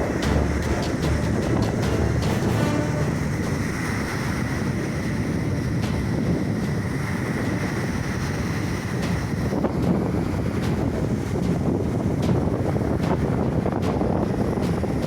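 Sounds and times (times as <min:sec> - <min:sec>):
sea waves washing in: 0:00.0 - 0:15.0
wind buffeting microphone: 0:00.0 - 0:15.0.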